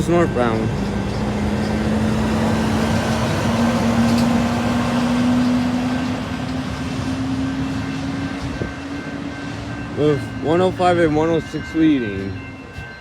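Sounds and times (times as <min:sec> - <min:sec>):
diesel train engine hum: 0:00.0 - 0:13.0
train rumbling on rails: 0:00.0 - 0:13.0.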